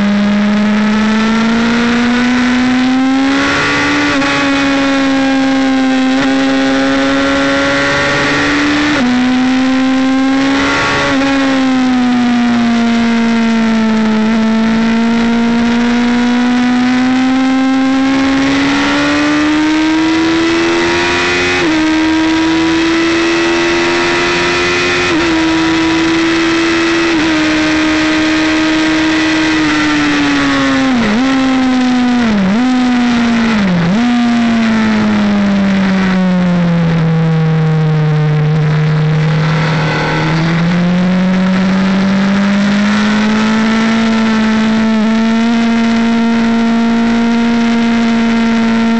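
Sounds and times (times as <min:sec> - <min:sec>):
motorcycle engine at high revs: 0:00.0 - 0:48.9.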